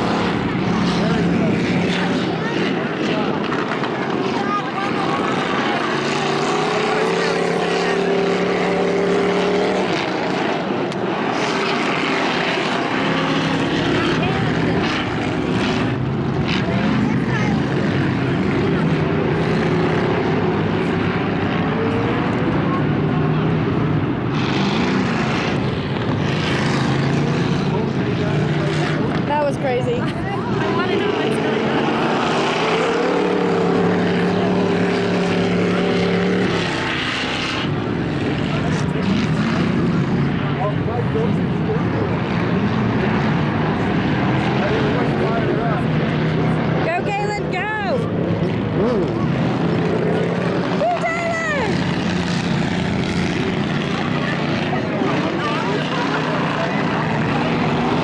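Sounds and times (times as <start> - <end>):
pickup truck engines racing: 0.0 - 58.0.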